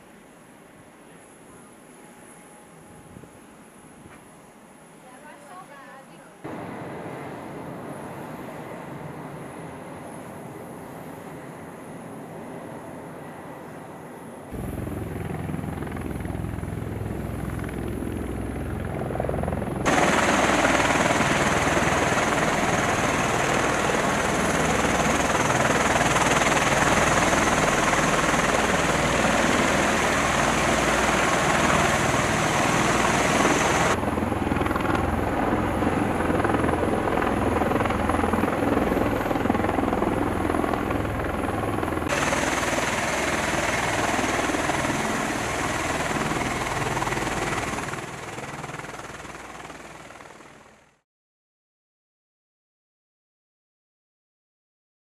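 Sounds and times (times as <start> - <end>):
helicopter rotor and turbine noise: 0.0 - 51.0.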